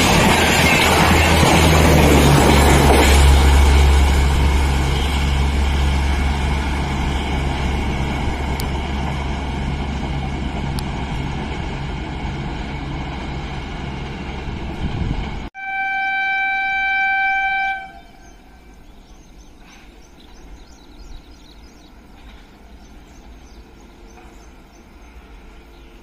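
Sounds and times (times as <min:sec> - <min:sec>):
train wheels rumbling on rails: 0:00.0 - 0:15.5, 0:18.2 - 0:26.0.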